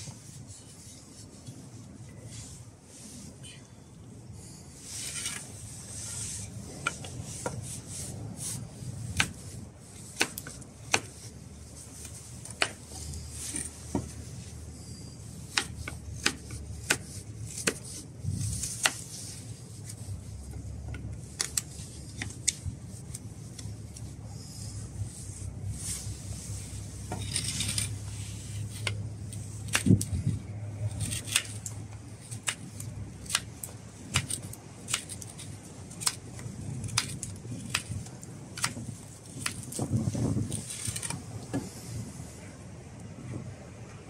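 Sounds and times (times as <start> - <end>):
knife carving wood: 4.8 - 42.0.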